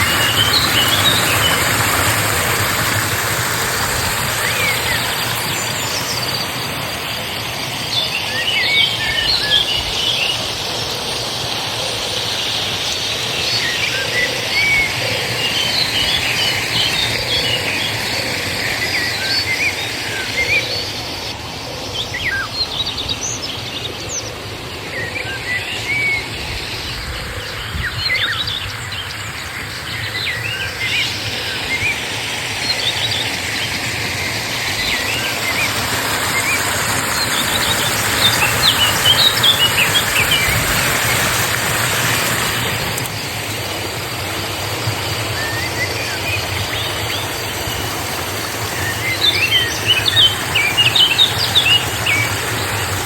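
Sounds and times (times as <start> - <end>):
river water flowing: 0.0 - 53.0
small birds chirping: 0.0 - 53.0.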